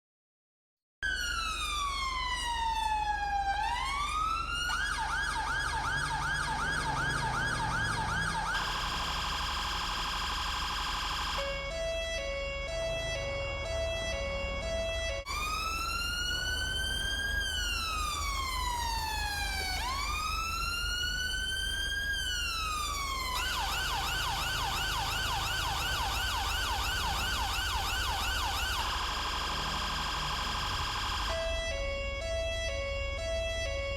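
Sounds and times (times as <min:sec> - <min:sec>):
police siren: 0:01.0 - 0:33.9.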